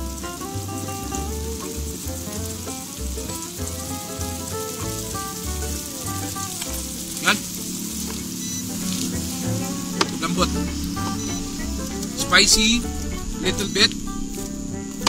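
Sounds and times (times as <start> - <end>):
music with pulsing bass beat: 0.0 - 15.0
stir-fry sizzling in a pan: 0.0 - 15.0.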